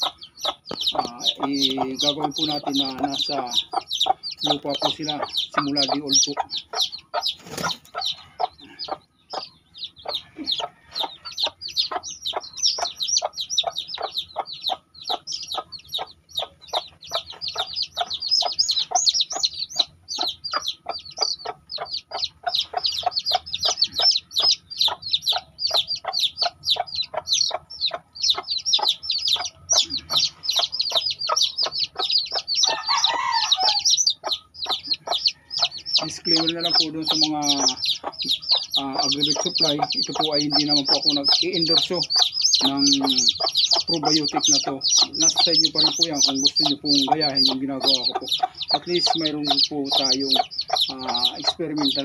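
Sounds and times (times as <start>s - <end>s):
chicks peeping: 0.0s - 52.0s.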